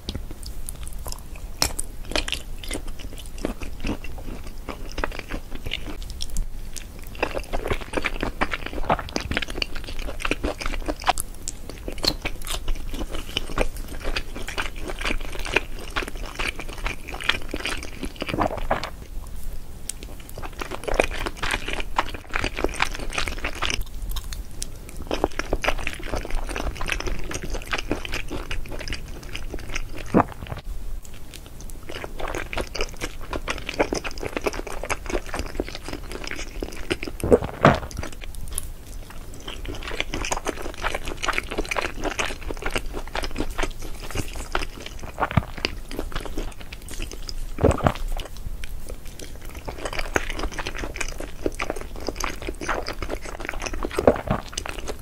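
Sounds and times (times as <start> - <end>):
close chewing mouth sounds: 0.0 - 55.0.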